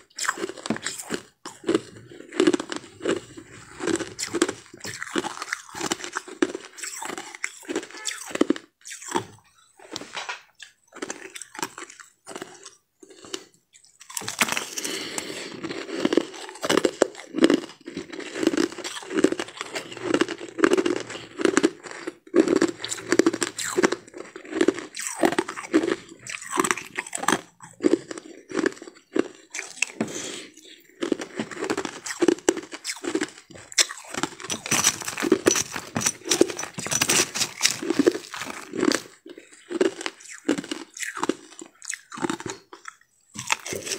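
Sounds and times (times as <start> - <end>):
crushed ice being chewed: 0.0 - 43.9.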